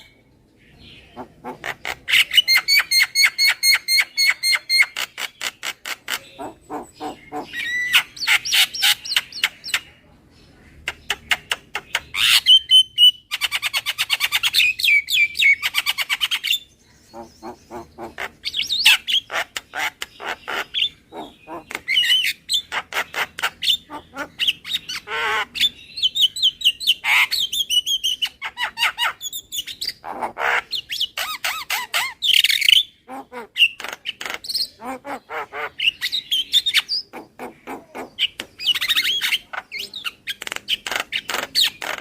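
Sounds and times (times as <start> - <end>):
myna chattering and whistling: 0.0 - 42.0.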